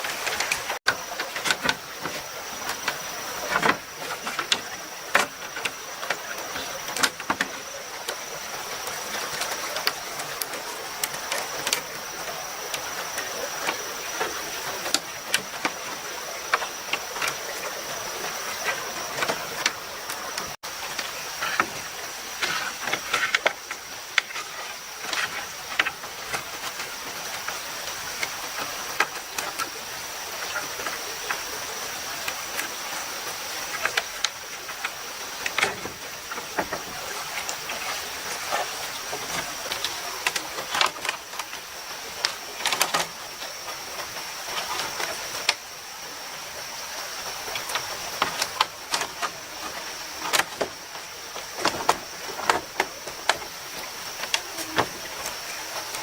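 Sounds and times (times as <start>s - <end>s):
constant high-pitched whine: 0.0s - 56.0s
stream flowing: 0.0s - 56.0s.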